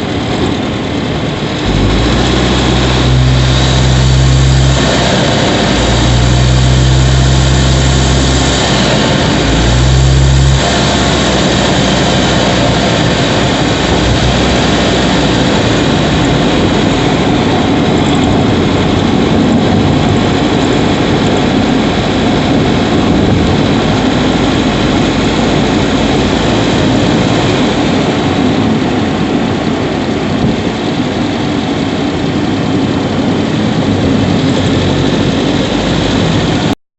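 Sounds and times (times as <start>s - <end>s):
car engine running: 0.0s - 36.8s
low steady engine note: 0.0s - 36.8s
road noise: 0.0s - 36.8s.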